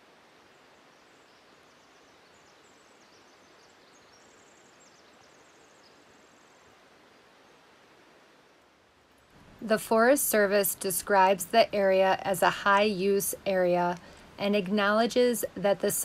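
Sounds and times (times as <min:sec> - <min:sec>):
faint forest ambience hiss: 0:00.0 - 0:16.0.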